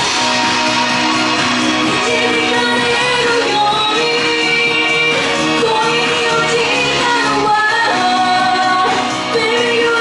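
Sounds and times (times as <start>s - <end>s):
pop backing music: 0.0s - 10.0s
woman singing into a microphone: 1.8s - 10.0s.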